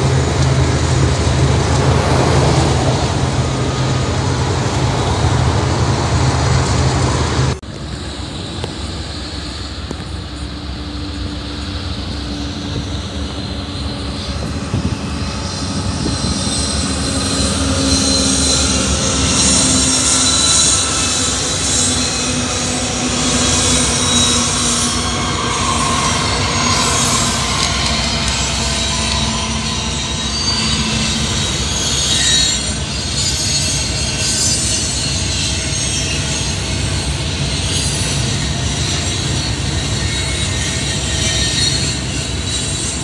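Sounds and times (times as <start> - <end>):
diesel locomotive engine drone: 0.0 - 43.0
freight train rumble: 0.0 - 43.0
high-pitched wheel squeal: 8.3 - 43.0.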